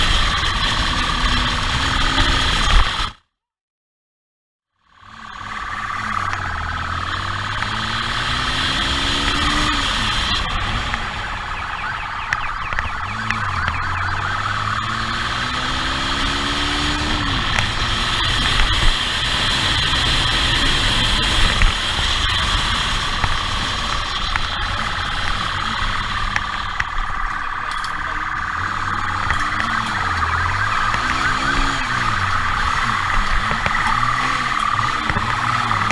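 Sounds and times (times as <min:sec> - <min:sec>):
motorcycle engine revving: 0:00.0 - 0:03.2, 0:04.8 - 0:35.9
siren steady high tone: 0:05.0 - 0:35.9
rushing wind: 0:05.5 - 0:35.9.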